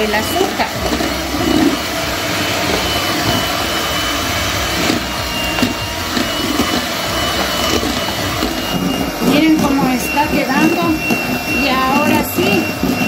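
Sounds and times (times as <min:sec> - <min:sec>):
electric hand mixer whining: 0:00.0 - 0:13.0.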